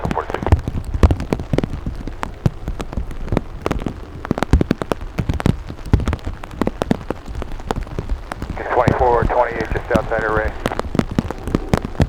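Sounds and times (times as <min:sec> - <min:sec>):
raindrops tapping hard surface: 0:00.0 - 0:12.0.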